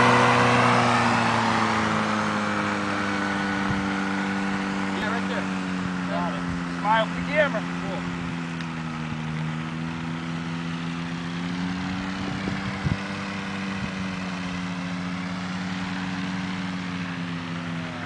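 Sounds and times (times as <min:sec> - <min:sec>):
small aircraft engine running: 0:00.0 - 0:18.0.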